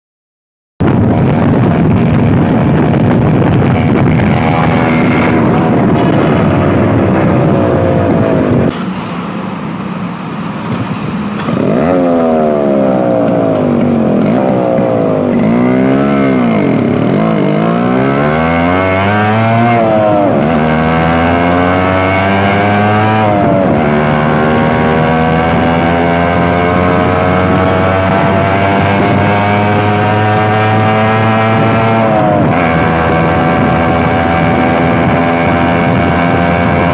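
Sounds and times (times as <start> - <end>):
motorcycle revving in tunnel: 0.9 - 36.9.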